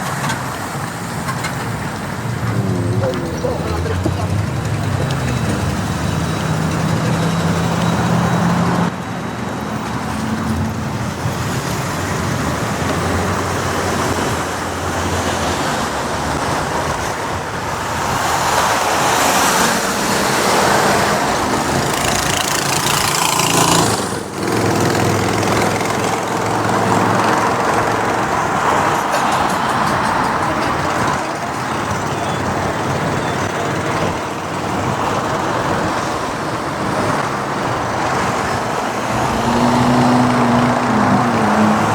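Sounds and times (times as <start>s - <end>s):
motorcycle engine hum: 0.0s - 41.9s
passing vehicles: 0.0s - 41.9s.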